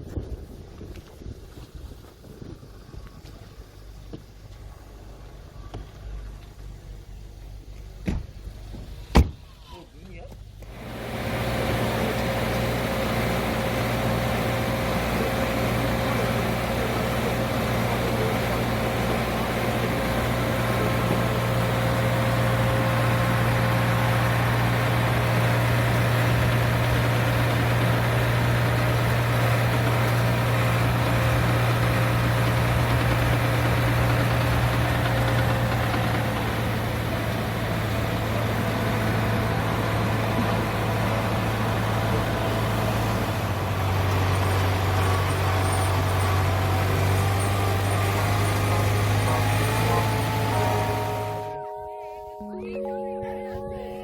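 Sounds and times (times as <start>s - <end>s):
vehicle engine droning: 0.1s - 51.7s.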